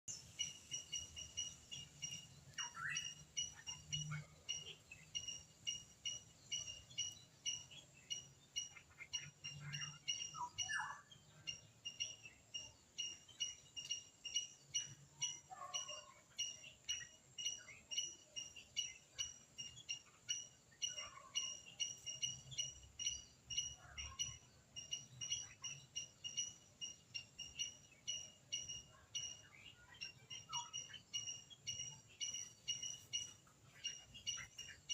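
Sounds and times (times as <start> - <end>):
faint chirping calls: 0.1 - 34.9.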